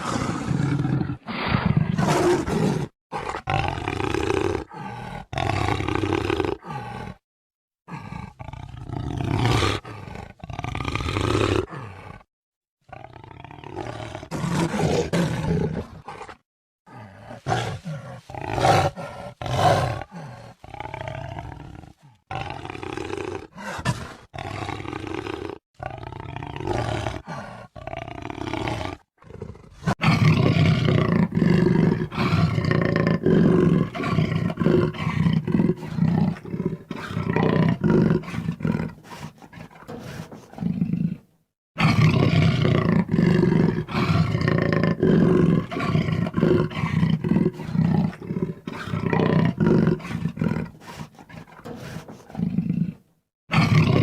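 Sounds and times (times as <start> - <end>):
jaguar roaring and growling: 0.0 - 7.2, 7.9 - 12.3, 12.9 - 54.0.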